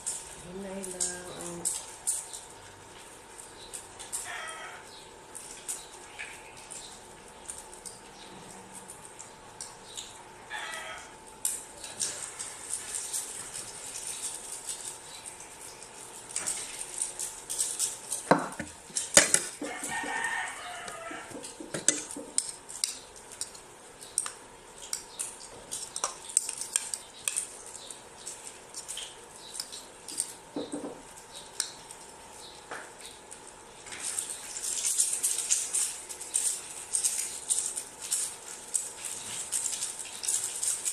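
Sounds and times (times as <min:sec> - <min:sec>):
faint sizzle: 0:00.0 - 0:40.9.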